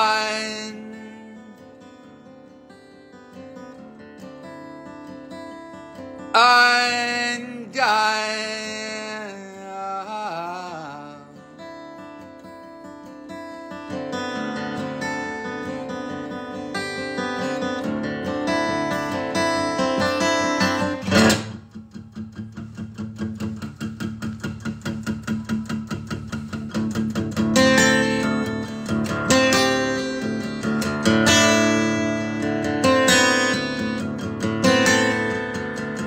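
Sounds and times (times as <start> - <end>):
acoustic guitar strummed and picked: 0.0 - 36.0.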